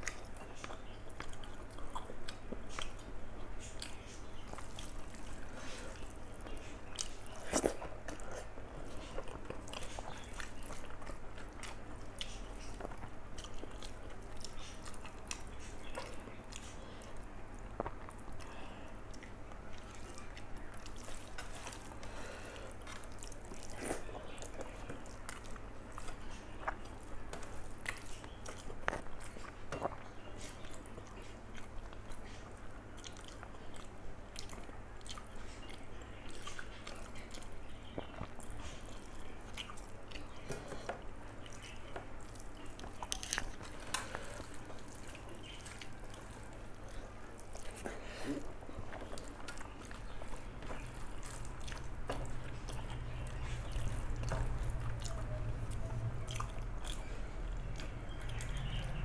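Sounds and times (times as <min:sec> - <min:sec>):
person chewing food: 0:00.0 - 0:59.0
steady low hum: 0:00.0 - 0:59.0.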